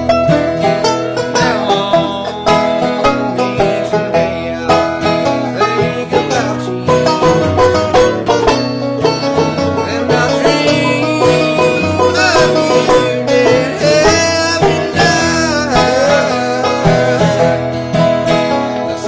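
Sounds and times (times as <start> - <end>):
acoustic guitar picking: 0.0 - 19.0
banjo picking: 0.0 - 19.0.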